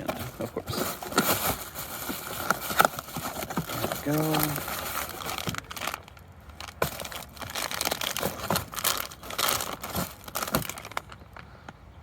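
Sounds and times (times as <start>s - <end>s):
packaging tearing: 0.0s - 11.2s
packaging crinkling and crackling: 0.0s - 11.5s.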